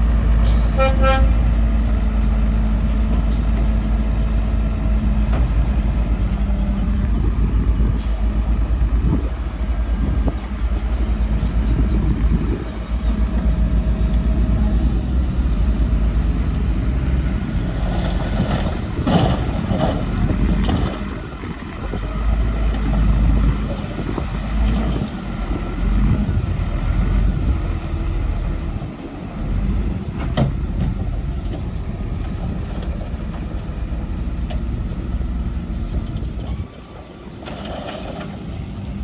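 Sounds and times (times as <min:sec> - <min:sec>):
diesel earthmoving machine rumbling: 0:00.0 - 0:39.0.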